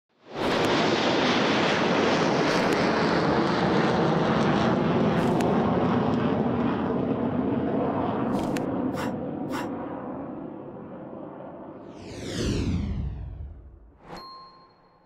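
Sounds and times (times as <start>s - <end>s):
jet airliner cabin drone: 0.4s - 14.2s.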